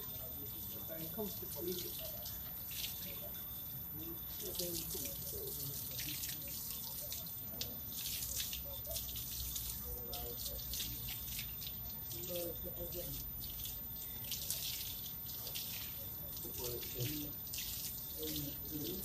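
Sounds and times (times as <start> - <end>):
water spraying from a hose: 0.0 - 19.0.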